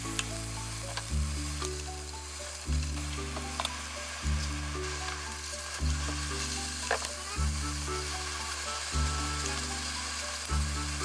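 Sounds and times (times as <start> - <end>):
background music with bass pulse: 0.0 - 11.0
food sizzling in a frying pan: 0.0 - 11.0.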